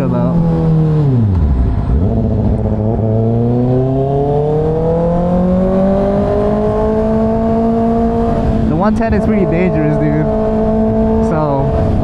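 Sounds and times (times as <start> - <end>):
motorcycle engine accelerating: 0.0 - 12.0
wind noise: 0.0 - 12.0.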